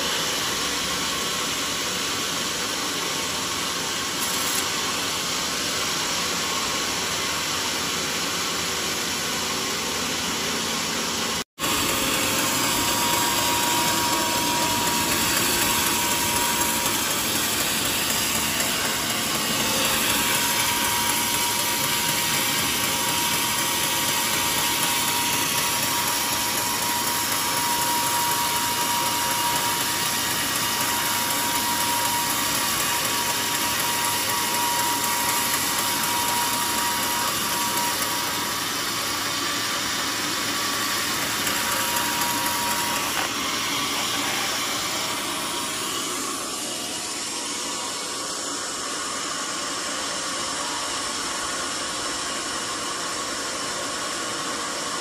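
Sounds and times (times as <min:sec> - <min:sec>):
band saw cutting wood: 0:00.0 - 0:49.6
thin steady whine: 0:00.0 - 0:55.0.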